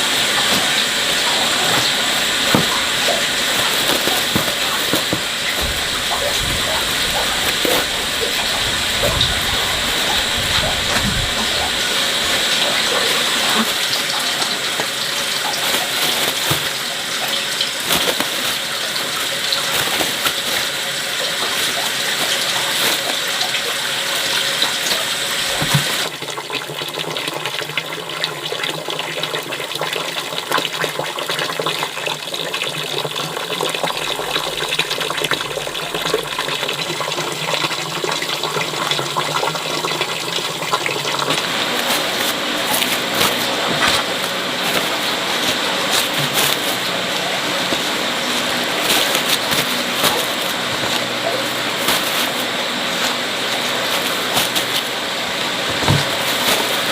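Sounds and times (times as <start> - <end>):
water running: 0.0 - 56.9.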